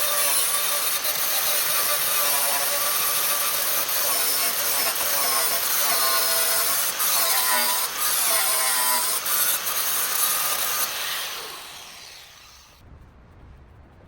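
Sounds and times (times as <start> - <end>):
power tool whining on metal: 0.0 - 12.8.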